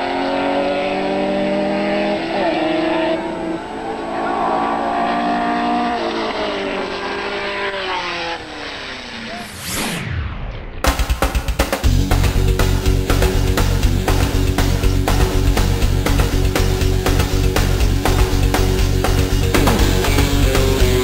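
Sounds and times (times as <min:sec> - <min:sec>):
race cars accelerating: 0:00.0 - 0:10.2, 0:13.0 - 0:21.0.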